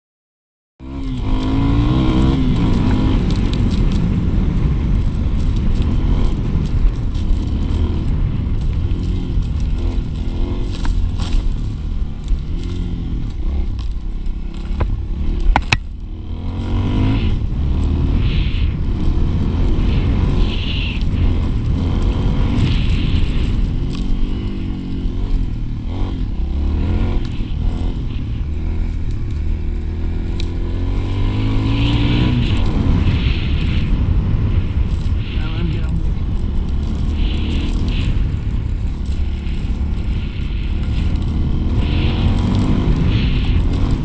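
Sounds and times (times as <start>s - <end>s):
motorbike engine revving: 0.8s - 44.0s
rumbling wind and ground noise: 0.8s - 44.0s.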